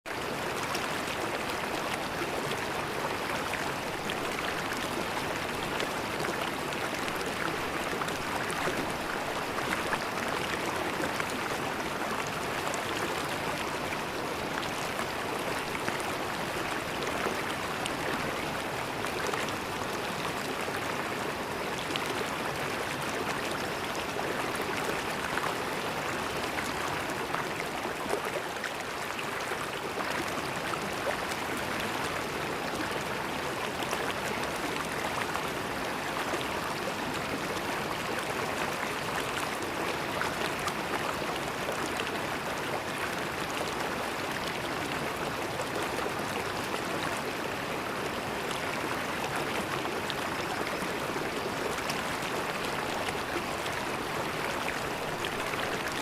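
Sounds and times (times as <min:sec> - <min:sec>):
river water flowing over rocks: 0:00.1 - 0:56.0.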